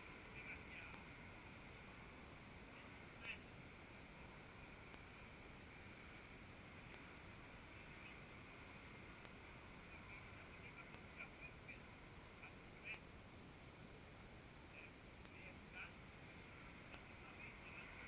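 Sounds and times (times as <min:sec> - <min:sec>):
faint ticks: 0:00.0 - 0:01.1, 0:02.7 - 0:17.9
faint steady hiss: 0:00.0 - 0:18.0.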